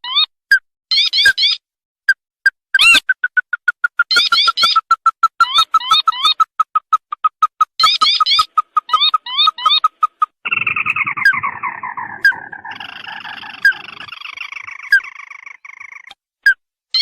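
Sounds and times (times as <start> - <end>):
recorded crake calls: 2.8 - 17.0.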